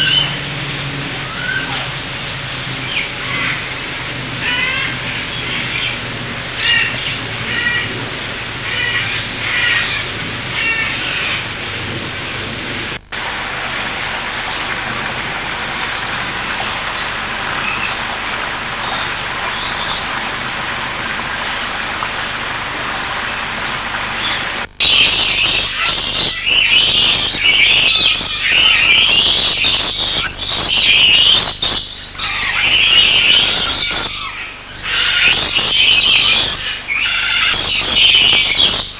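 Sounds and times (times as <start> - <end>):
parrots squawking: 0.0 - 13.0, 13.7 - 38.9
background hiss: 0.0 - 31.8
birds chirping: 0.0 - 38.9.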